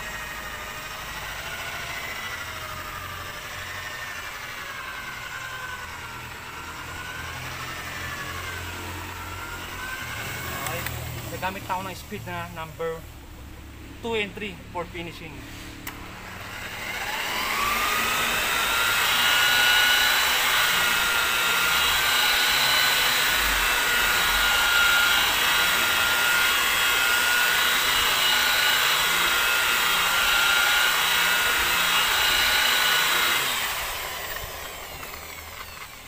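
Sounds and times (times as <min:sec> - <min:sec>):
electric polisher whine: 0:00.0 - 0:12.4, 0:14.8 - 0:36.0.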